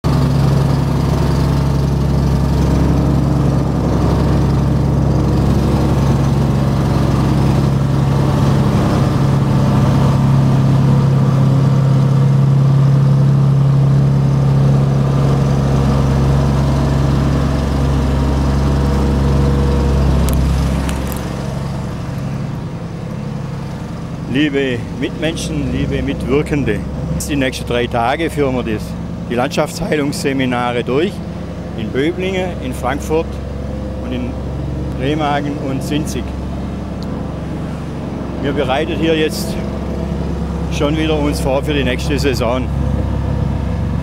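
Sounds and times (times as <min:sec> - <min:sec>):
plate compactor droning: 0:00.0 - 0:44.0.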